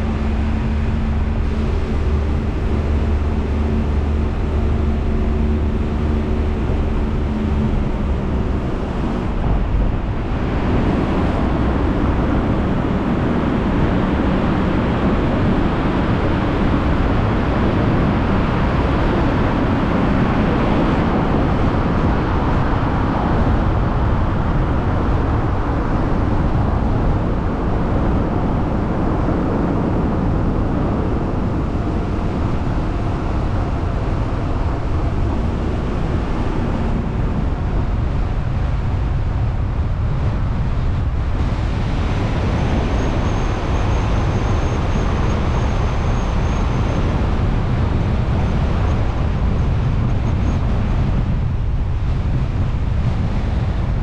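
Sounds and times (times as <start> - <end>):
car engine hum: 0.0 - 54.0
tyre and road noise: 0.0 - 54.0.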